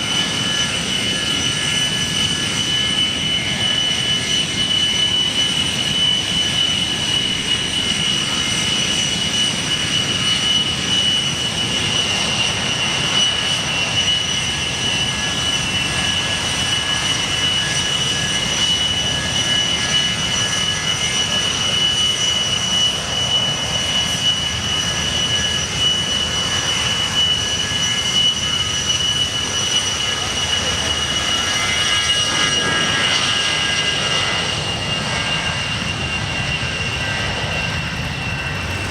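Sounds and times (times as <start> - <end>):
aircraft engine whine: 0.0 - 38.9.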